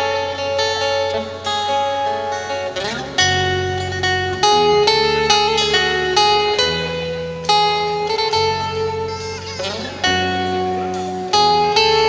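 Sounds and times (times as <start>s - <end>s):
bass guitar line: 0.0s - 12.0s
guitars playing held notes: 0.0s - 12.0s.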